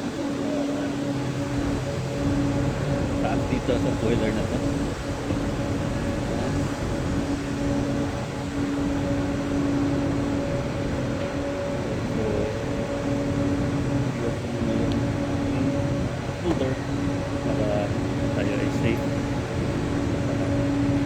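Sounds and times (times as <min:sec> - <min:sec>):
low hum: 0:00.0 - 0:21.0
machinery drone: 0:00.0 - 0:21.0.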